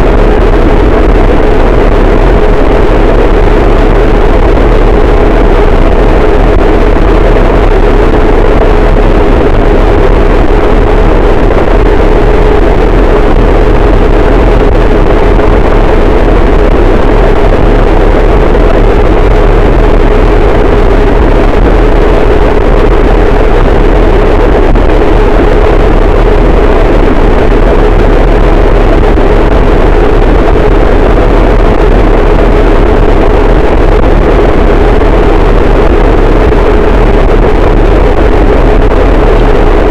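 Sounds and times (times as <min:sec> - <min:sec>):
distorted static noise wall: 0:00.0 - 0:39.9.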